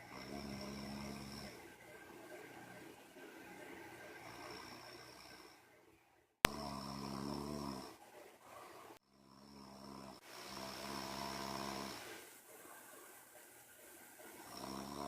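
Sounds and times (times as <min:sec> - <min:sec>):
person snoring: 0:00.0 - 0:02.8, 0:03.4 - 0:05.7, 0:06.5 - 0:13.1, 0:14.2 - 0:15.0.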